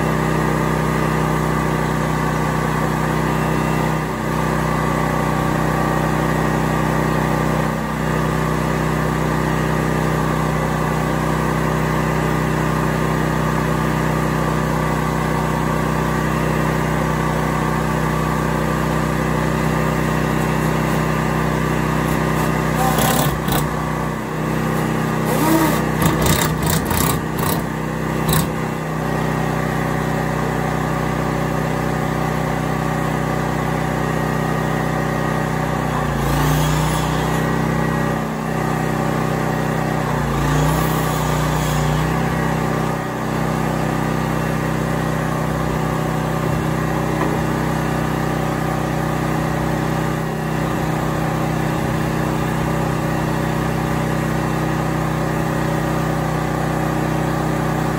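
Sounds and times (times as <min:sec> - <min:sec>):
portable generator engine running: 0:00.0 - 0:57.9.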